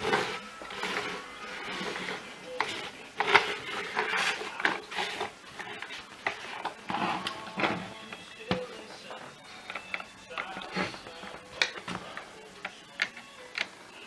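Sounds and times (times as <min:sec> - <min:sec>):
rubbing and handling noise: 0:00.0 - 0:14.0.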